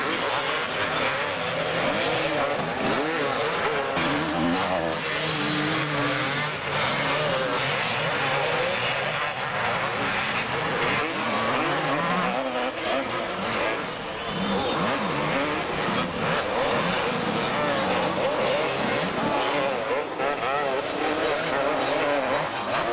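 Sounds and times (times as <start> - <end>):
motocross bikes revving: 0.0 - 22.9.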